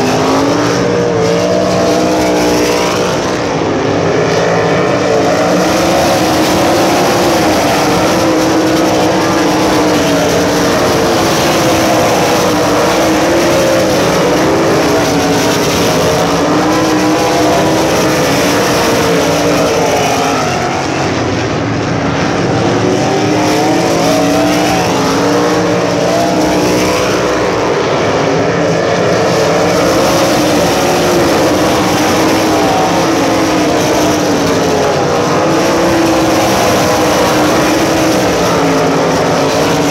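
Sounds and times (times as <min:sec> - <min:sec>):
race car engines at high revs: 0:00.0 - 0:39.9.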